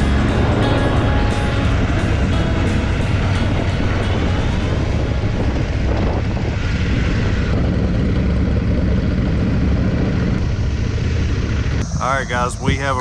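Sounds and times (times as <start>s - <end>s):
motorcycle engine drone: 0.0s - 13.0s
wind rush: 0.0s - 13.0s.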